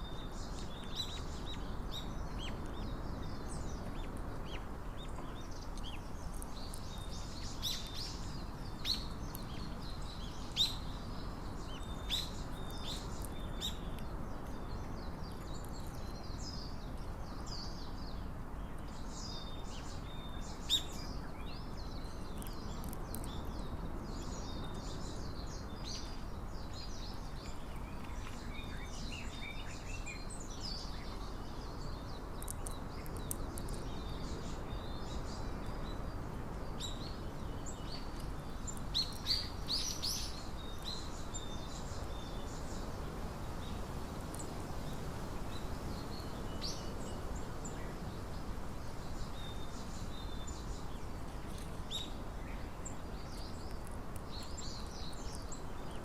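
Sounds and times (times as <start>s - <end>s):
low background noise: 0.0s - 56.0s
small birds chirping: 0.0s - 56.0s.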